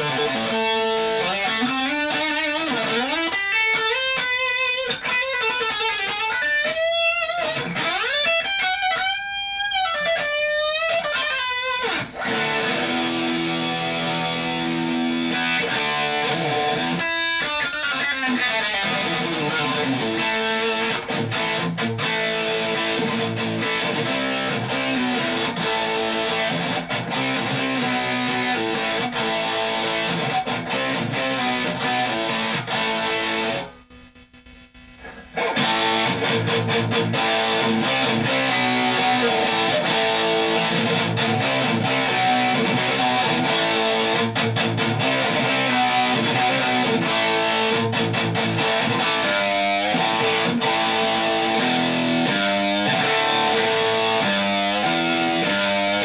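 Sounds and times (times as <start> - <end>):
distorted electric guitar chords: 0.0 - 56.0
wavering phaser-like guitar sweep: 0.0 - 56.0.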